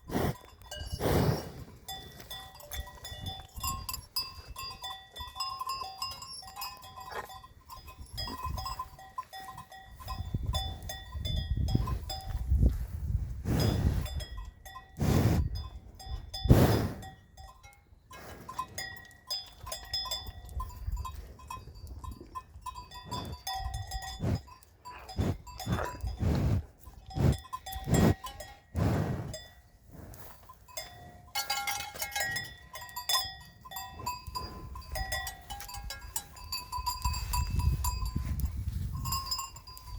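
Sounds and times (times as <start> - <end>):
livestock bells clanking: 0.2 - 12.5, 13.5 - 39.9.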